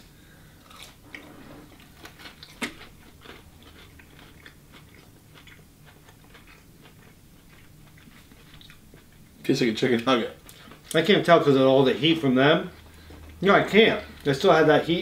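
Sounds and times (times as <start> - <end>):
chewing crunchy food: 0.6 - 11.2, 12.7 - 14.5.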